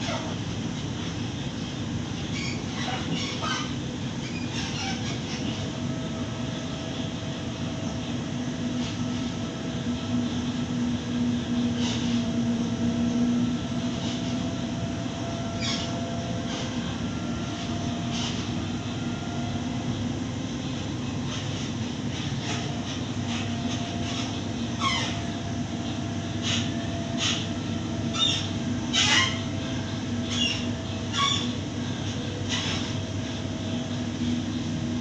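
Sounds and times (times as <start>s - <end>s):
traction equipment hum: 0.0s - 35.0s
train wheels rumbling on track: 0.0s - 35.0s.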